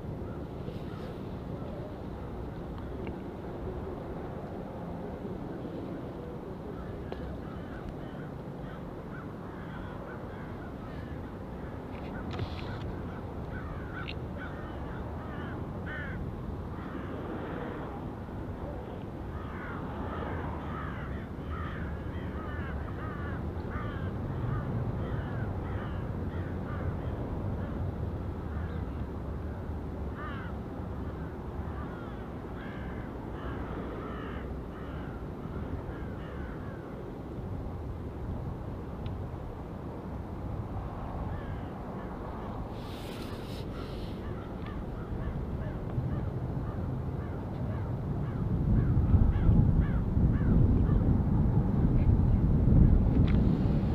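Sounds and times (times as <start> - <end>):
steady low rumble: 0.0 - 53.9.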